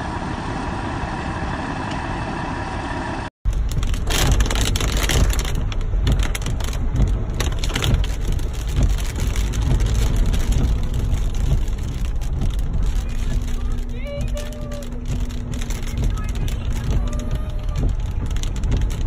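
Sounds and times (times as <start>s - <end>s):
car engine and tyres rumbling: 0.0s - 19.0s
rain drumming on a car: 3.5s - 19.0s.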